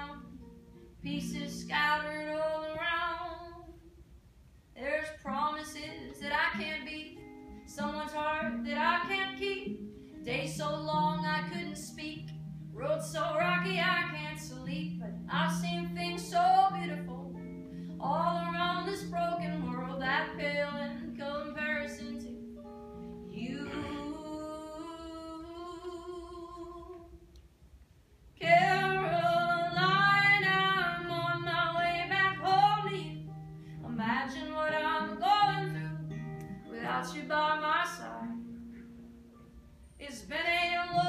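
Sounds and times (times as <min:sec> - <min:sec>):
woman singing: 0:00.0 - 0:00.4, 0:01.0 - 0:03.9, 0:04.8 - 0:22.5, 0:23.3 - 0:27.2, 0:28.4 - 0:38.6, 0:40.0 - 0:41.0
acoustic guitar: 0:00.0 - 0:41.0.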